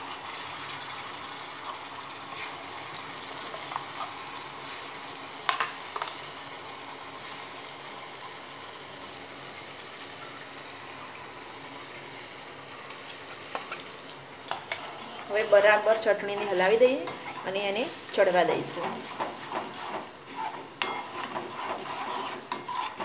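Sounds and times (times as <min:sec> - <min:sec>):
paste sizzling in hot oil: 0:00.0 - 0:23.0.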